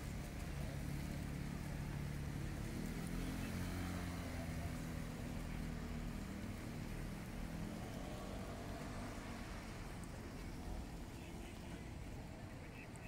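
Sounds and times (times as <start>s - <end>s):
vehicle engine humming low: 0.0s - 13.0s.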